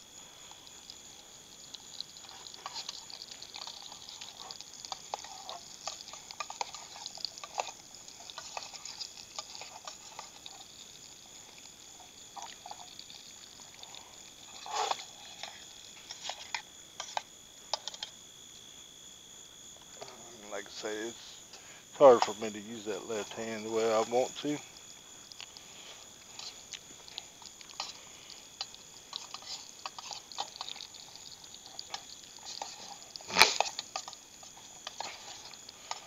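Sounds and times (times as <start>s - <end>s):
sausages sizzling in oil: 0.0s - 36.0s.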